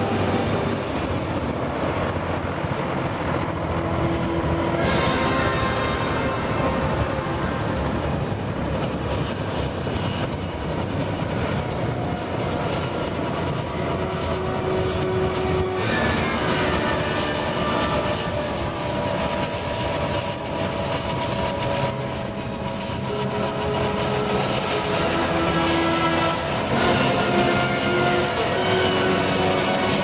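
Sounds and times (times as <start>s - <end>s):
helicopter turbine engines whining: 0.0s - 30.0s.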